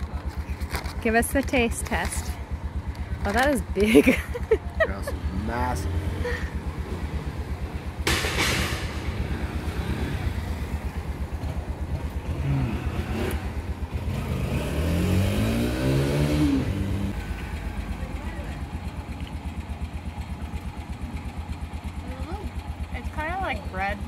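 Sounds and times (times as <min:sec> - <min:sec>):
small engine idling: 0:00.0 - 0:14.3, 0:17.1 - 0:24.0.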